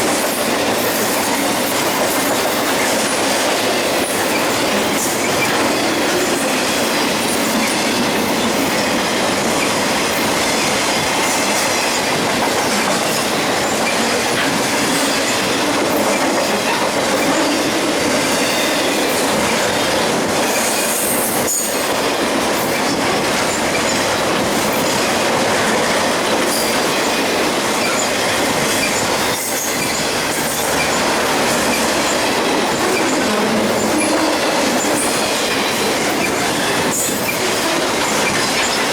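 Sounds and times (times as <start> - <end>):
train wheels rushing on rail: 0.0 - 38.9.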